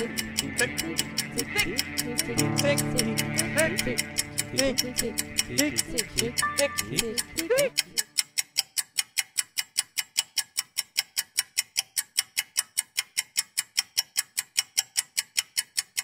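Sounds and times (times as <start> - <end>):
clock ticking quickly: 0.0 - 16.0.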